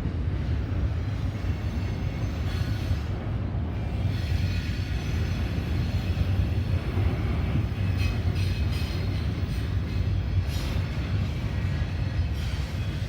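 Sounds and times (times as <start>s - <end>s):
freight train wheels rumbling: 0.0s - 13.0s
rail joint clicks: 0.1s - 13.0s.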